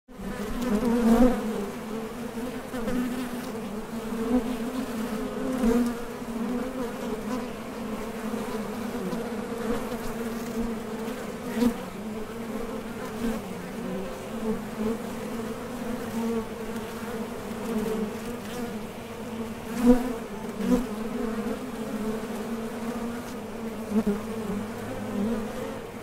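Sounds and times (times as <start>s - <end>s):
honey bees buzzing: 0.1s - 26.0s.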